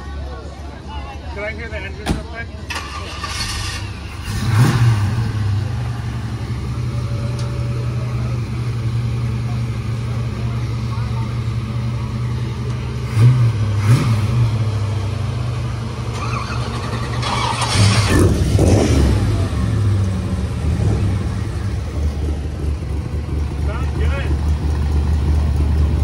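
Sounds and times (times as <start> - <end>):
car engine idling and revving: 2.4 - 26.0.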